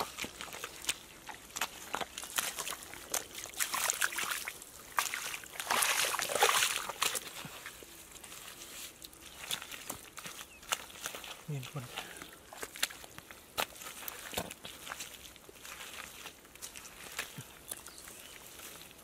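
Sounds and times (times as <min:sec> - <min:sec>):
hands squelching through mud: 0:00.0 - 0:19.0
muddy water slosh: 0:00.0 - 0:19.0.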